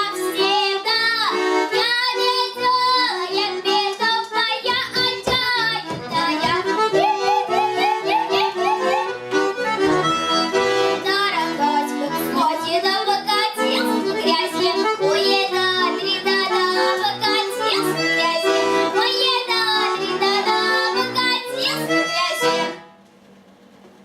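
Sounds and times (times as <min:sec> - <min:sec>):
accordion folk dance tune: 0:00.0 - 0:23.0.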